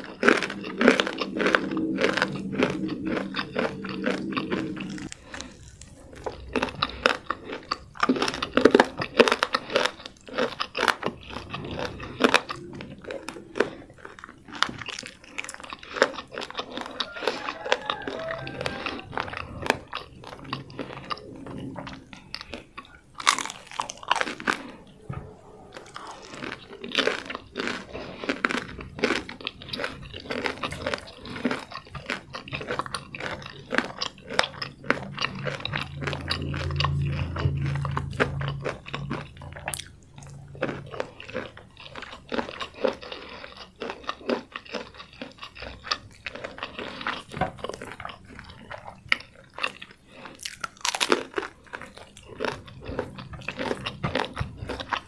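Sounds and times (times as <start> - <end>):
chewing crispy fried chicken: 0.0 - 55.0
low steady hum: 0.0 - 55.0.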